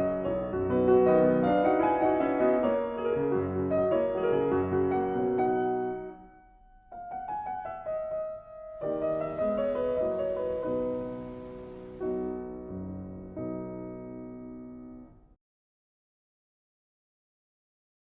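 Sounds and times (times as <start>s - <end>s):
slow piano music: 0.0s - 15.3s.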